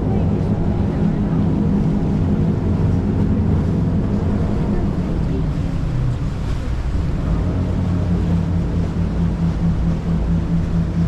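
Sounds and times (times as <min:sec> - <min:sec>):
boat engine droning: 0:00.0 - 0:11.0
steady hum: 0:00.0 - 0:11.0
water washing: 0:00.0 - 0:11.0.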